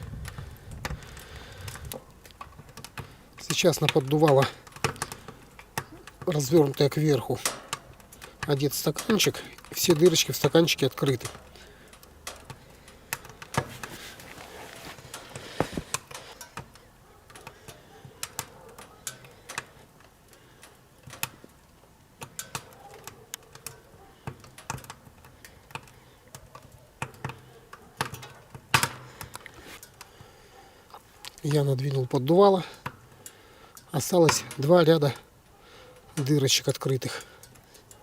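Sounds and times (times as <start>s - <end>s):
firewood crackling in a stove: 0.0s - 38.0s.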